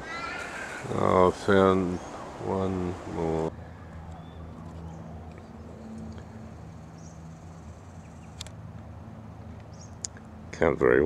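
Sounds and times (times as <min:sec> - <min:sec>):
distant bird chirps: 0:00.0 - 0:08.6, 0:09.5 - 0:10.3.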